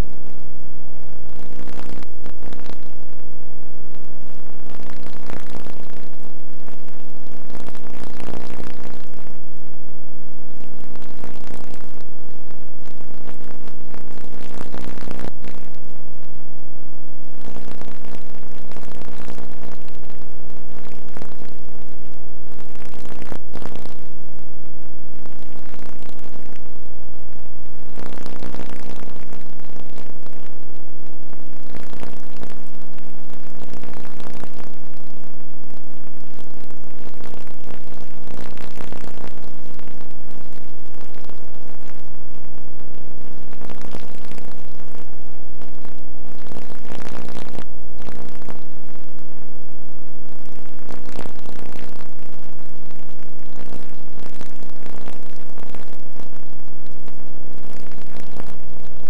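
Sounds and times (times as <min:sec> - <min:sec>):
loud buzzing hum: 0:00.0 - 0:59.0.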